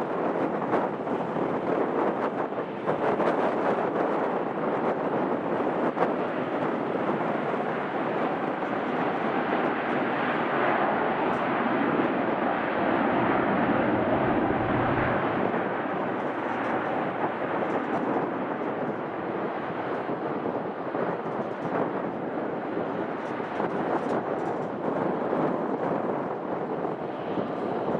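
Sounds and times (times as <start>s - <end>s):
jet airliner engine rush: 0.0s - 27.9s.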